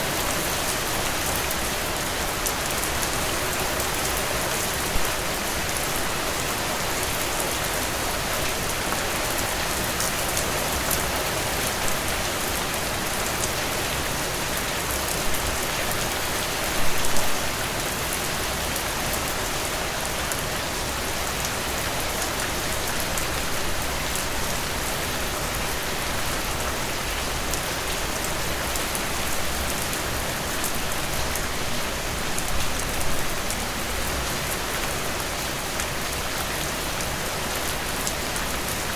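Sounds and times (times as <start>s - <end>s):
heavy rain downpour: 0.0s - 38.9s.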